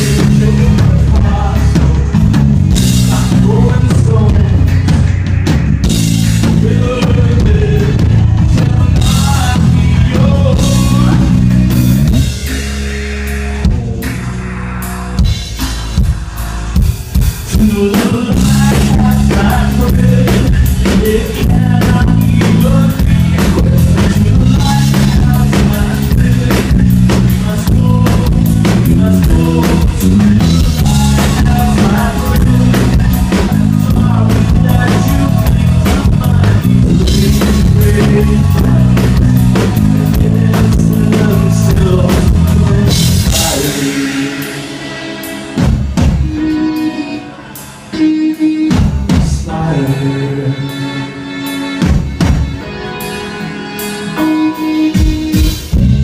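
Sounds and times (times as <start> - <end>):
live band instrumental: 0.0 - 56.0.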